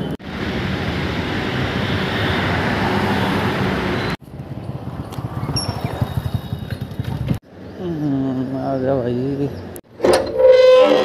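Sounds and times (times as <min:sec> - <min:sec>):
road traffic roar: 0:00.0 - 0:10.2
quiet street sound: 0:00.0 - 0:11.0.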